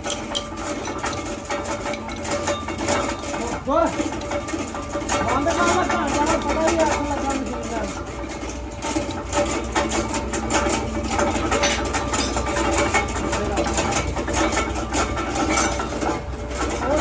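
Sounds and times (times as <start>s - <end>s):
press machine humming and clattering: 0.0s - 17.0s.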